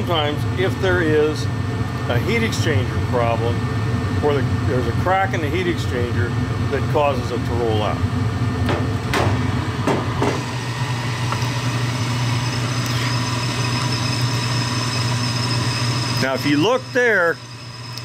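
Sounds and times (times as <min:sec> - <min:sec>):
furnace motor and burner hum: 0:00.0 - 0:18.0.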